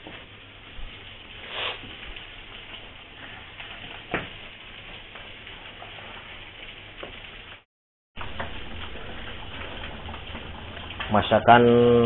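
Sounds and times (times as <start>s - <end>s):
food sizzling in a pan: 0.0s - 11.1s.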